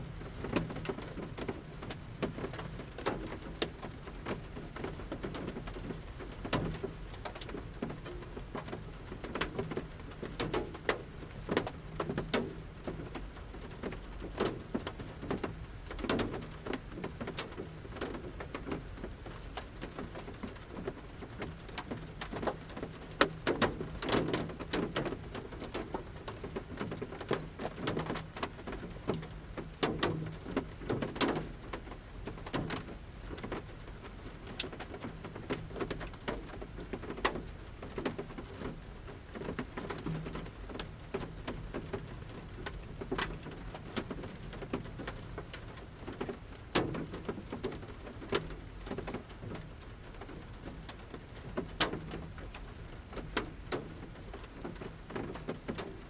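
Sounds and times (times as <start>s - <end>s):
soft rain patter: 0.0s - 56.0s.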